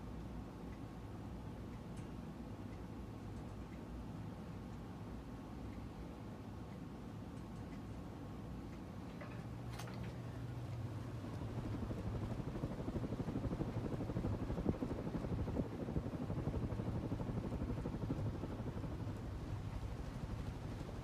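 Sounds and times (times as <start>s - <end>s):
ceiling fan running: 0.0s - 21.0s.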